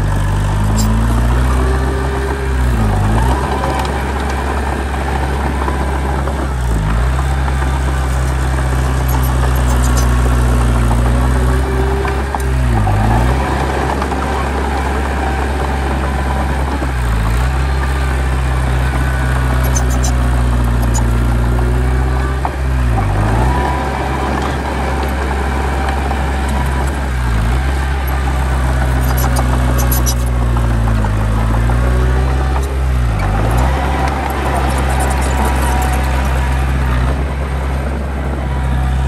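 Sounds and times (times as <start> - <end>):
heavy diesel engine running: 0.0 - 39.0.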